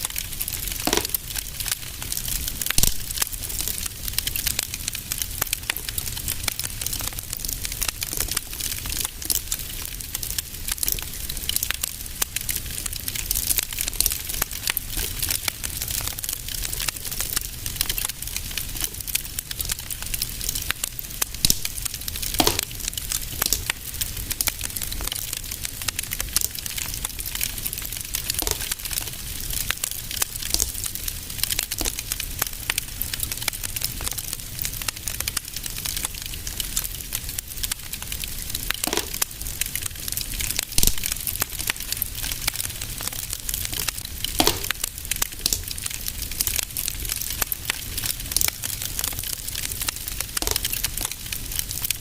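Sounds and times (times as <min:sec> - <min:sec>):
fire crackling in fireplace: 0:00.0 - 0:52.0.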